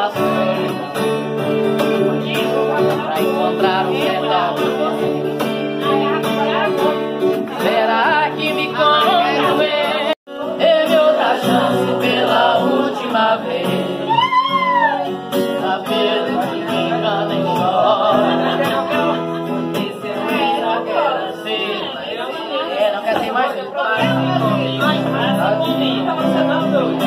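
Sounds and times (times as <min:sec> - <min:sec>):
guitar strumming chords: 0:00.0 - 0:22.0, 0:24.0 - 0:27.0
man singing: 0:00.0 - 0:27.0.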